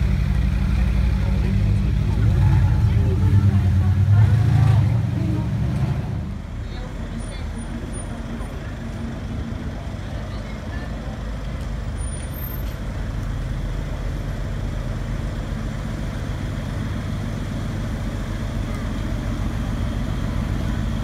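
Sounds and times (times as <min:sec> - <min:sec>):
car engine at low revs: 0:00.0 - 0:12.1, 0:12.8 - 0:21.0.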